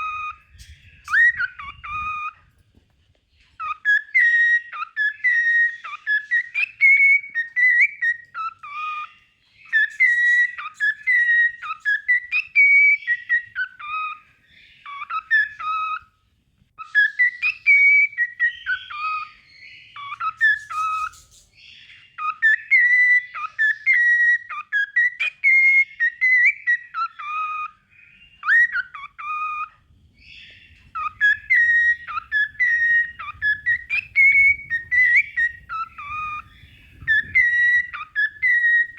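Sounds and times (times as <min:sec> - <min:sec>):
cockatiel whistling: 0:00.0 - 0:02.5, 0:03.5 - 0:16.1, 0:16.8 - 0:38.9.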